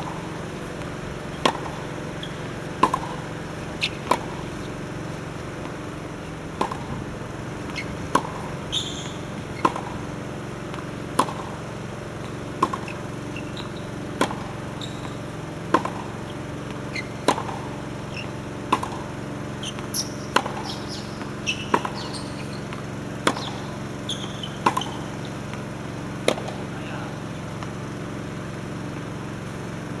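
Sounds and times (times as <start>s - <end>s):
tennis ball struck by racket: 0.0s - 28.0s
tennis ball bouncing: 0.0s - 30.0s.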